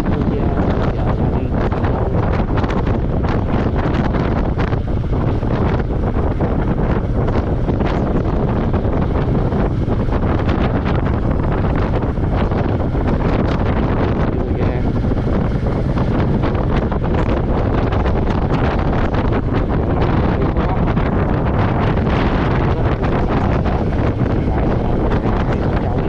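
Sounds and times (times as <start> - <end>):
motorcycle engine running: 0.0 - 26.0
wind on microphone: 0.0 - 26.0.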